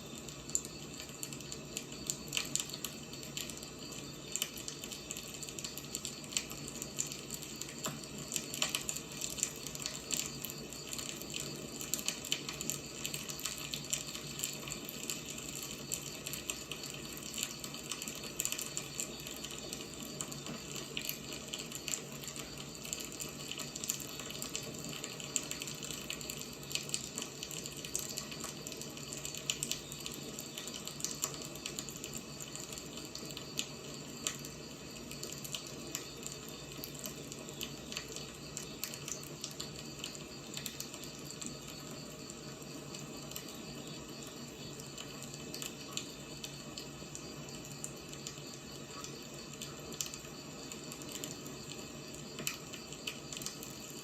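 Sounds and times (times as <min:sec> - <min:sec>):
fire crackles and pops: 0:00.0 - 0:54.0
firewood burning hiss: 0:00.0 - 0:54.0.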